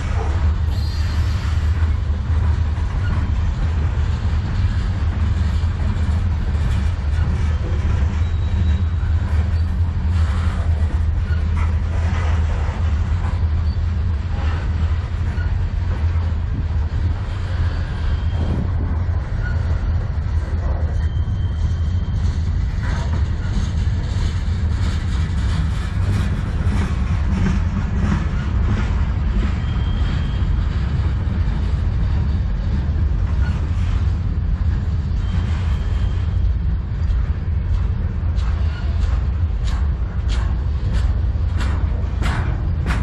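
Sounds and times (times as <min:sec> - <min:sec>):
train wheels rumbling on rail: 0:00.0 - 0:43.0
wheels clacking over rail joints: 0:00.0 - 0:43.0.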